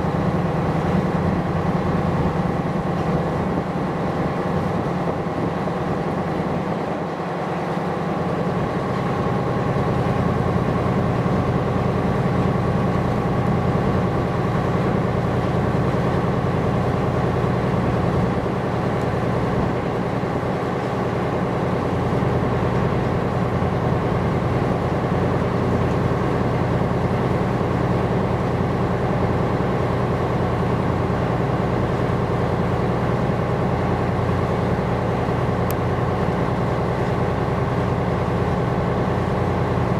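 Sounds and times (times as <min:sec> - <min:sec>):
ship diesel engine droning: 0:00.0 - 0:39.9.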